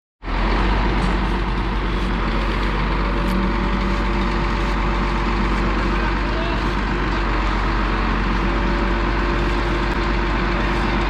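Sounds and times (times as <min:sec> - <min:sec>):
engine running steadily: 0:00.2 - 0:11.0.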